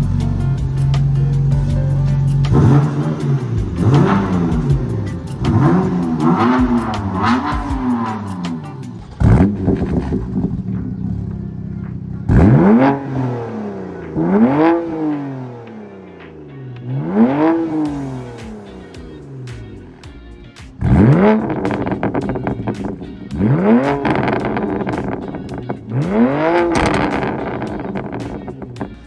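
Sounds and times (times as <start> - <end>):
car engine revving: 0.0 - 20.0, 20.8 - 29.0
exhaust crack: 0.0 - 29.0.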